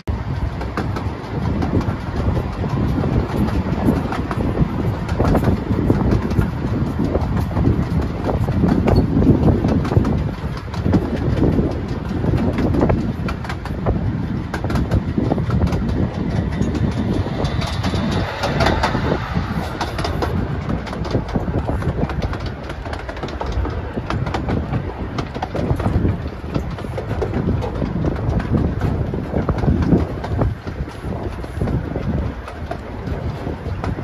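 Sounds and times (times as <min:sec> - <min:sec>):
miniature train rumble: 0:00.1 - 0:34.0
wheels clicking on rails: 0:00.1 - 0:34.0.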